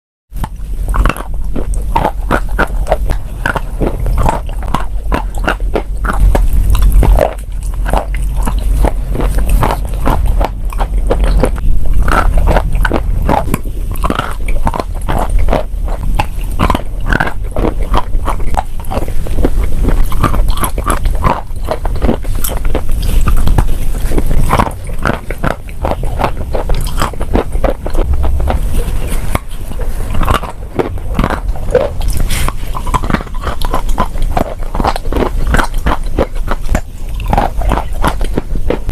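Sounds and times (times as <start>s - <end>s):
chewing crunchy chalk: 0.4s - 38.9s
deep rumble: 0.4s - 38.9s.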